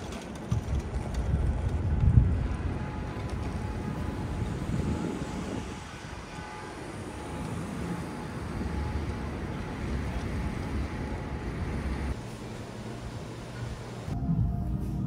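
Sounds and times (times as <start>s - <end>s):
traffic rumble: 0.0s - 15.0s
low hum: 0.9s - 15.0s.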